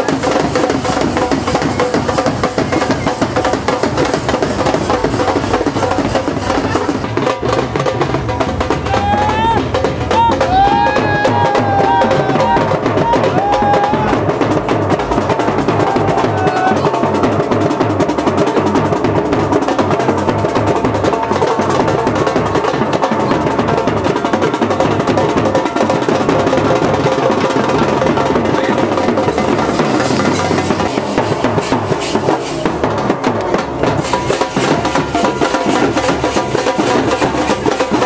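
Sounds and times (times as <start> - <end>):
fast dense drumming: 0.0 - 38.0.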